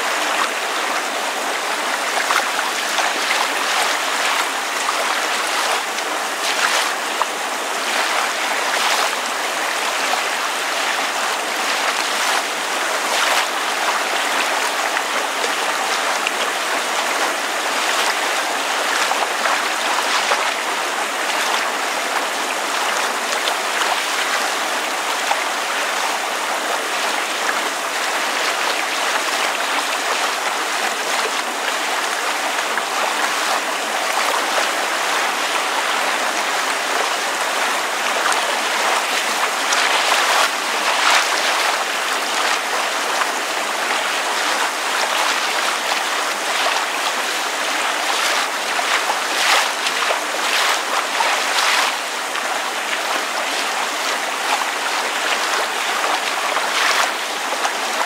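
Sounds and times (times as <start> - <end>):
rain falling on water: 0.0 - 58.0
soft water splashes: 0.0 - 58.0
water lapping: 0.0 - 58.0.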